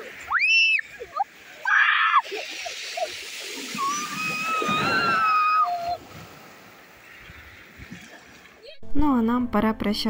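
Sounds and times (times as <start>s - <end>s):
waves washing over shingle: 0.0s - 8.6s.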